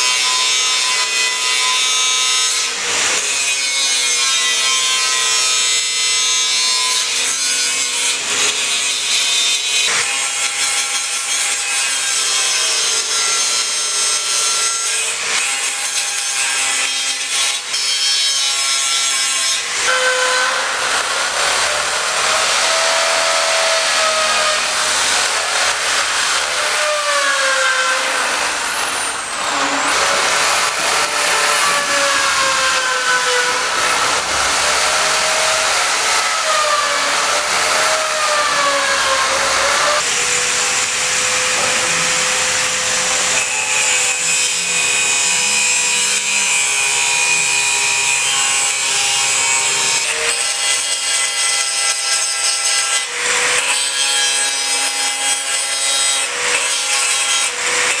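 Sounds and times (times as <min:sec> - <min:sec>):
power tool sawing: 0:00.0 - 0:58.0.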